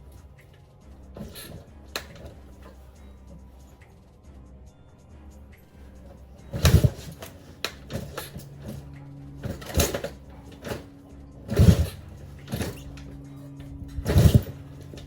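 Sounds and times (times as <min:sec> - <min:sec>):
small engine running rough: 0:00.0 - 0:03.8, 0:05.9 - 0:15.0.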